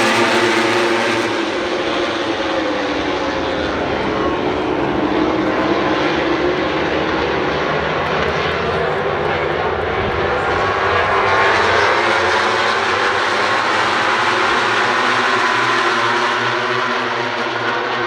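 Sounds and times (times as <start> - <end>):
race motorcycles at full throttle: 0.0 - 18.0.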